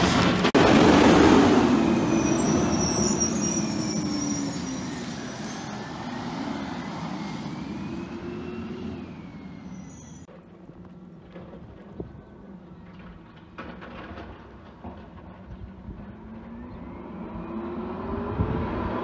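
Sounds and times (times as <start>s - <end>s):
garbage truck diesel engine: 0.0s - 18.9s.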